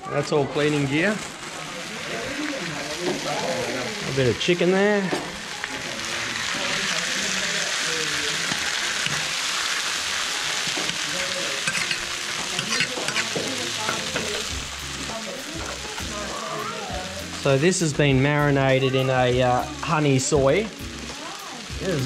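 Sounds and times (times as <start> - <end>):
chicken kebabs sizzling: 0.0 - 22.0.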